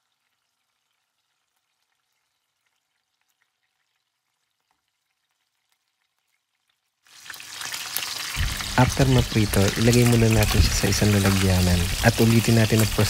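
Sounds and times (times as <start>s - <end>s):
faint crackling of pork frying: 0.0s - 13.0s.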